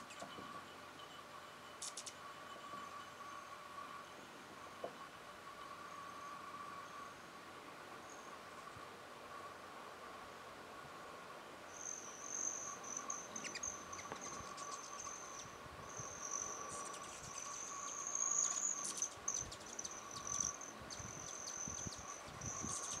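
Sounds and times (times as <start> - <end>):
hummingbird buzzing trill: 0.0 - 7.3, 11.7 - 23.0.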